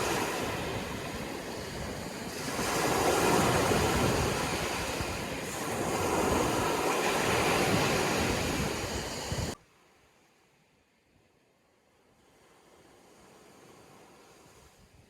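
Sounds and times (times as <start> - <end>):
sea waves washing ashore: 0.0 - 10.0, 12.1 - 15.0.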